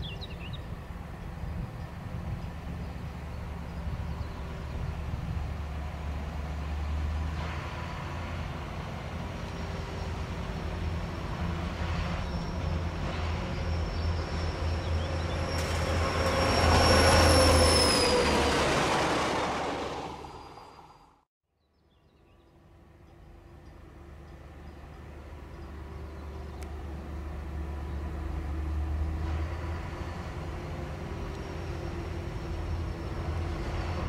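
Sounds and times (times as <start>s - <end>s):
train wheels on rails: 0.0s - 21.0s, 23.6s - 34.0s
diesel locomotive rumble: 0.0s - 21.2s, 22.4s - 34.0s.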